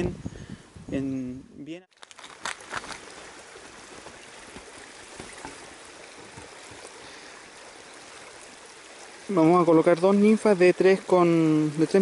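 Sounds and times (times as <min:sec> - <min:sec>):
river water rushing: 0:02.2 - 0:12.0.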